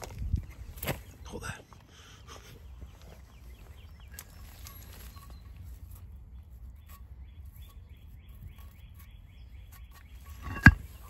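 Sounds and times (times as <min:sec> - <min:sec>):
faint bird chirping: 0:00.1 - 0:11.0.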